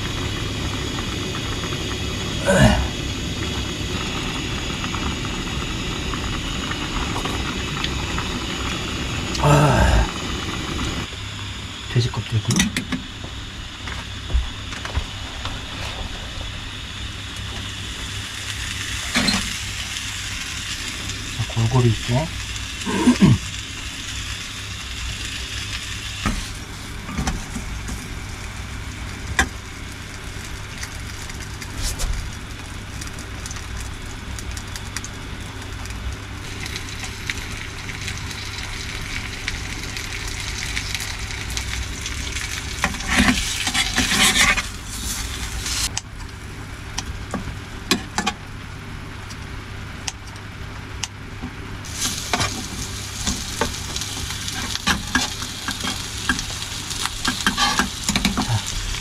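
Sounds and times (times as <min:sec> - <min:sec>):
food sizzling in a pot: 0:00.0 - 0:11.8, 0:15.5 - 0:46.0, 0:51.8 - 0:59.0
steady low hum: 0:00.0 - 0:59.0.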